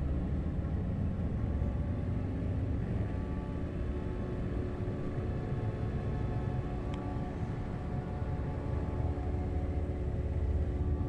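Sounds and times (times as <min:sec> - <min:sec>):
wind and road rumble: 0:00.0 - 0:11.0.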